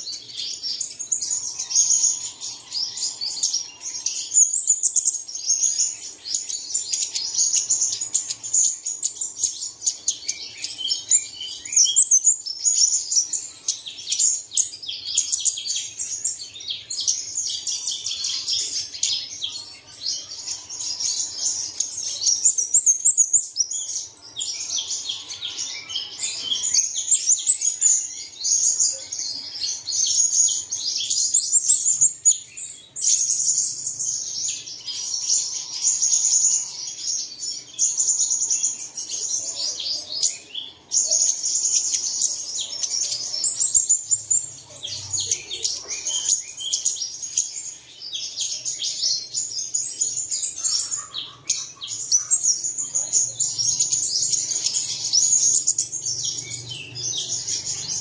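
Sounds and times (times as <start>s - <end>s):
birds twittering and trilling: 0.0s - 58.0s.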